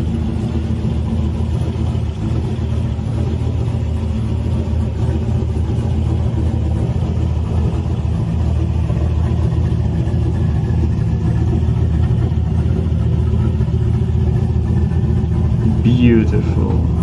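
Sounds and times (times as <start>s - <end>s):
car engine deep rumble: 0.0s - 17.0s.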